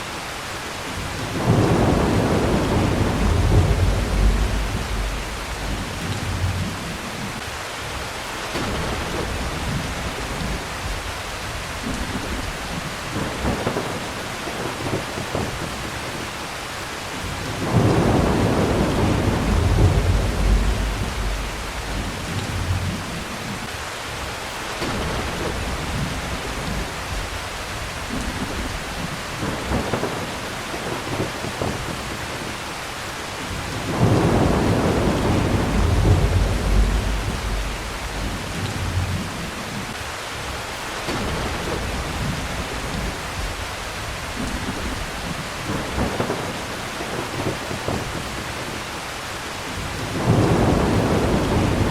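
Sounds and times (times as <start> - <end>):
heavy rain falling: 0.0 - 51.9
thunder rumbling: 0.9 - 16.4, 17.2 - 23.7, 24.8 - 32.6, 33.5 - 40.0, 41.1 - 48.9, 49.6 - 51.9.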